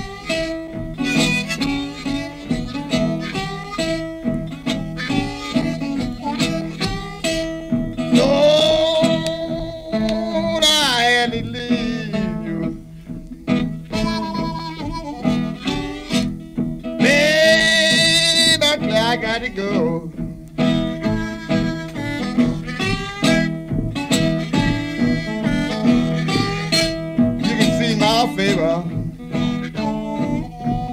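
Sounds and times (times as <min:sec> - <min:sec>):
harmonica wailing: 0:00.0 - 0:30.9
slide guitar: 0:00.0 - 0:30.9.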